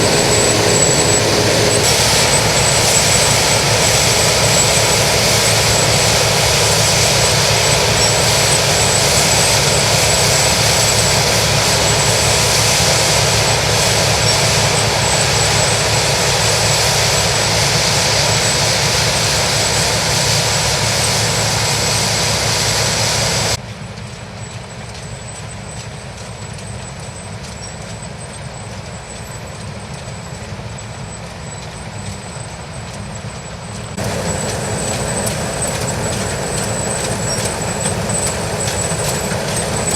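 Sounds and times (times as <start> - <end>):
combine harvester running: 0.0 - 25.0, 28.8 - 39.9.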